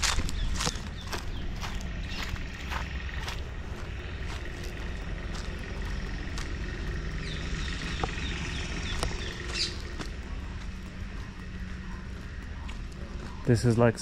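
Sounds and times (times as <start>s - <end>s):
footstep clicks: 0.0s - 6.9s, 7.8s - 14.0s
bird chirping: 0.0s - 14.0s
low background rumble: 0.0s - 14.0s.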